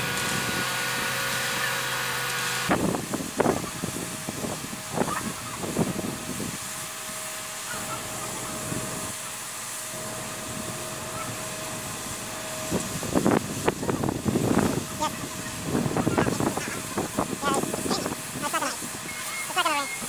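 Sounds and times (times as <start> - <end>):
concrete mixer truck running: 0.0 - 20.0
thin steady whine: 0.0 - 20.0.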